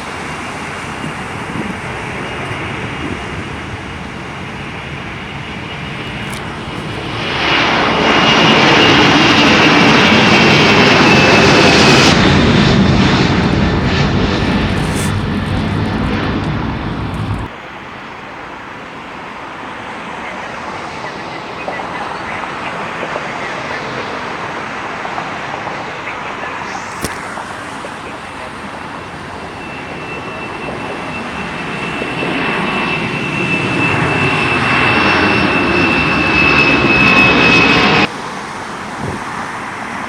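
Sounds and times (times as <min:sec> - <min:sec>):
jet engines passing: 0:00.0 - 0:40.0.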